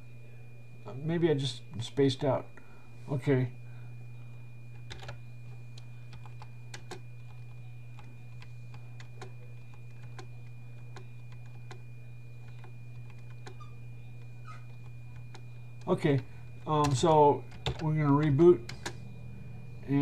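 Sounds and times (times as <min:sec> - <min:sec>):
faint high whine: 0:00.0 - 0:20.0
low hum: 0:02.5 - 0:20.0.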